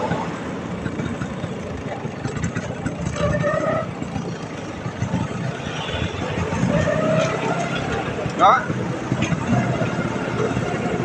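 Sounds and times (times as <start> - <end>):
scooter engine rumbling: 0.0 - 11.0.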